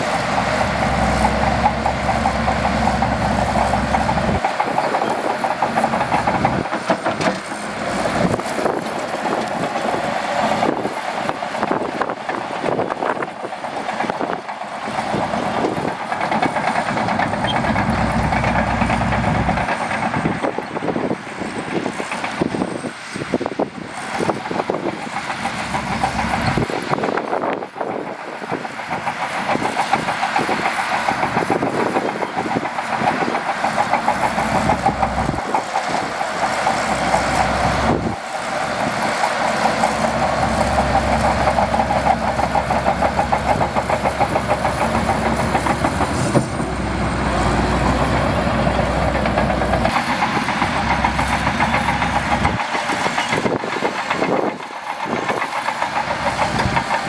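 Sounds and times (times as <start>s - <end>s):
bulldozer diesel engine under load: 0.0s - 57.0s
steel tracks clattering: 0.0s - 57.0s.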